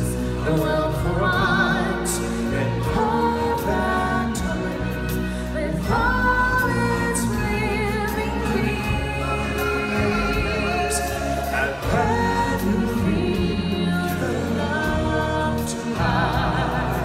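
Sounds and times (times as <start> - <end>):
choir singing: 0.0 - 17.0
musical accompaniment: 0.0 - 17.0.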